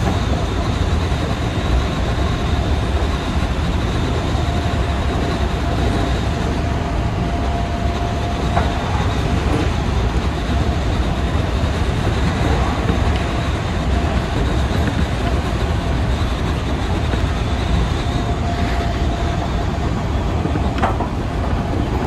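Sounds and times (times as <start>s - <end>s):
thin steady whine: 0.0s - 22.0s
train wheels rumbling on track: 0.0s - 22.0s.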